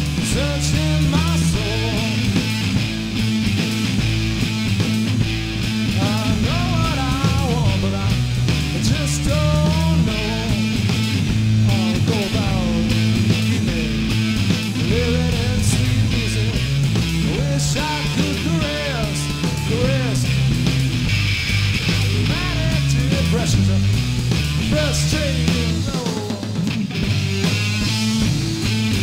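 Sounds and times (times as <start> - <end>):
bass guitar: 0.0 - 29.0
drum kit: 0.0 - 29.0
electric guitar melody: 0.0 - 29.0.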